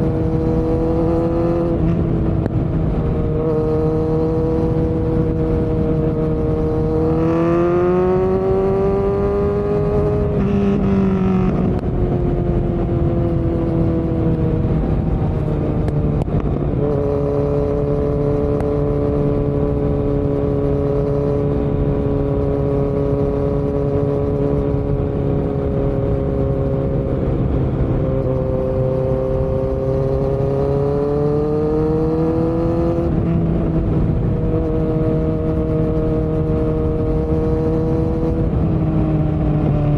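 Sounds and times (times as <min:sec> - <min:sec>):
motorcycle engine running loudly: 0:00.0 - 0:39.9.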